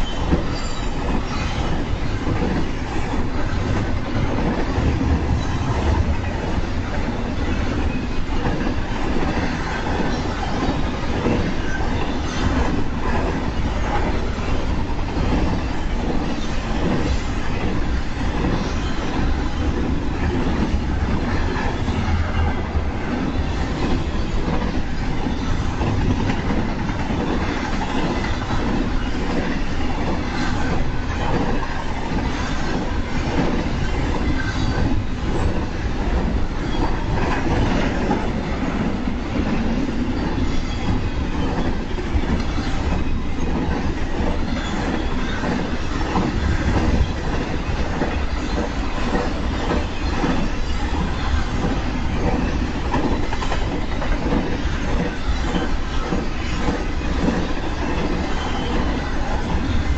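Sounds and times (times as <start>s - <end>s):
train cars rumbling: 0.0s - 59.9s.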